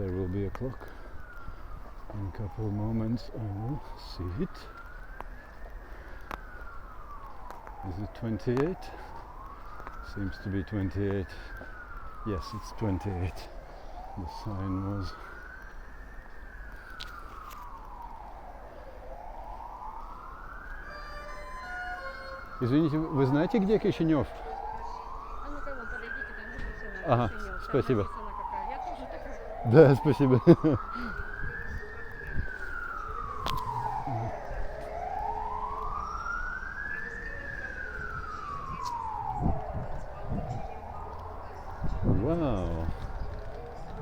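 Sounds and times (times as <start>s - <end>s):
siren wailing: 0.0s - 44.0s.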